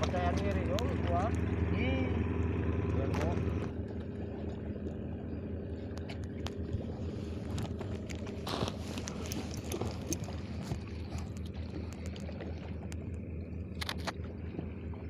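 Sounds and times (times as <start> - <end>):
boat engine hum: 0.0 - 15.0.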